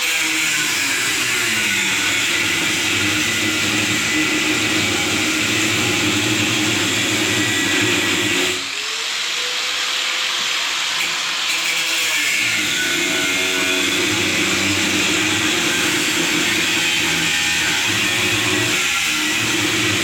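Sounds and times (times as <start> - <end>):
angle grinder cutting steel: 0.0 - 20.0.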